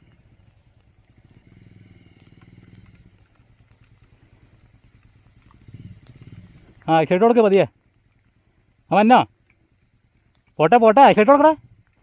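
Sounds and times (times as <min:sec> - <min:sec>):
faint motorcycle engine: 0:00.0 - 0:12.0.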